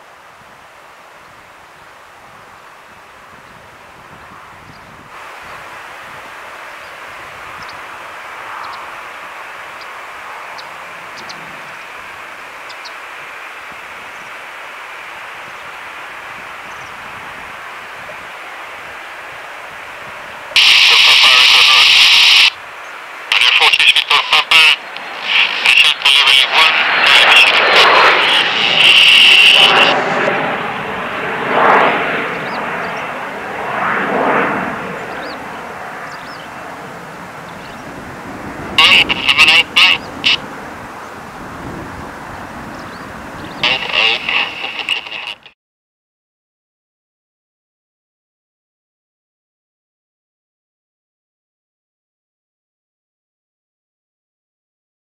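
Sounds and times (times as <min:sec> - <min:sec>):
distant jet engines rushing: 0:00.0 - 0:45.5.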